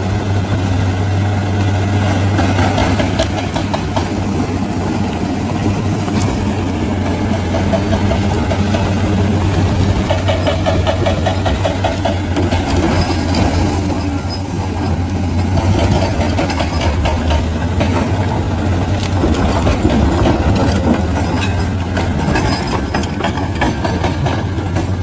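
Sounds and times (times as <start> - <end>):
bulldozer diesel engine droning: 0.0 - 25.0.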